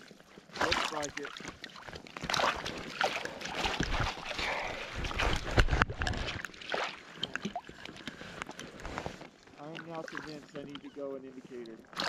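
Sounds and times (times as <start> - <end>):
lake water sloshing and splashing: 0.0 - 12.0.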